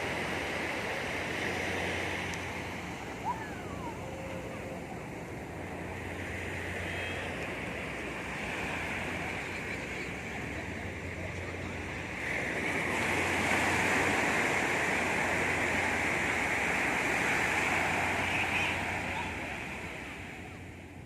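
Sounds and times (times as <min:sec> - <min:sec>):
waves washing on beach: 0:00.0 - 0:21.0.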